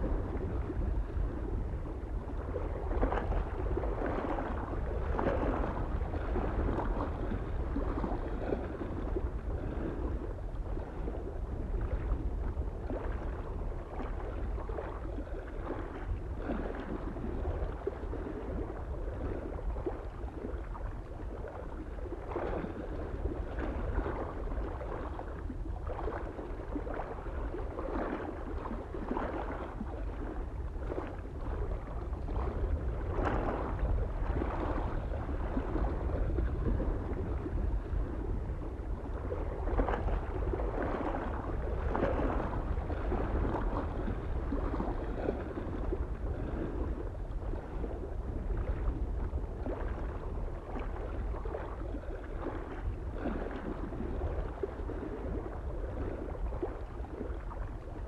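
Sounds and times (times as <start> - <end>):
low rumble of wind: 0.0 - 58.0
small waves lapping on shore: 0.0 - 58.0.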